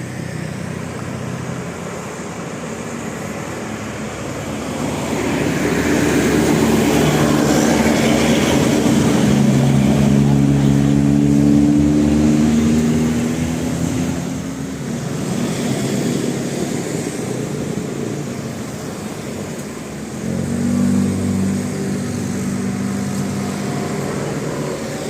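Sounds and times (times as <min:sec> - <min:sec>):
bus engines: 0:00.0 - 0:25.0
traffic: 0:00.0 - 0:25.0.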